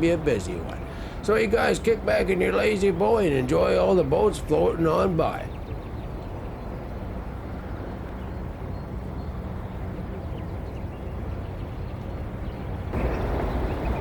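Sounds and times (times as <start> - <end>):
boat engine humming: 0.0 - 14.0
waterside background noise: 0.0 - 14.0.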